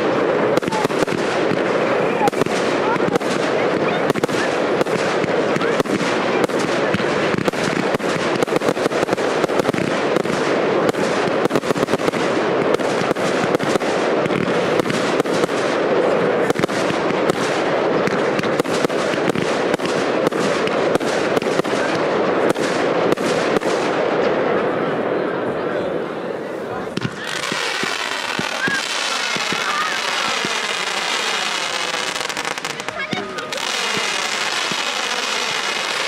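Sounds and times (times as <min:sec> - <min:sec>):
fireworks cracks and bangs: 0:00.0 - 0:36.0.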